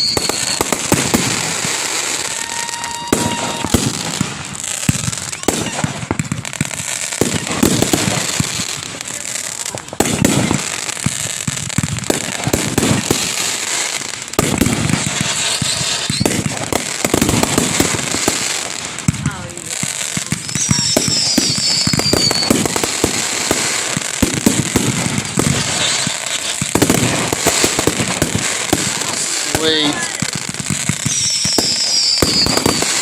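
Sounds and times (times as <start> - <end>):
fireworks booming and crackling: 0.0 - 33.0.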